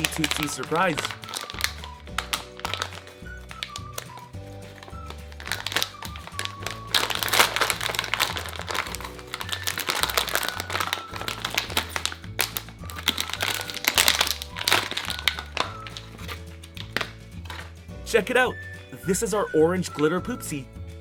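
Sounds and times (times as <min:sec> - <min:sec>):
plastic wrapping crinkling: 0:00.0 - 0:17.8
background music with bass line: 0:00.0 - 0:21.0.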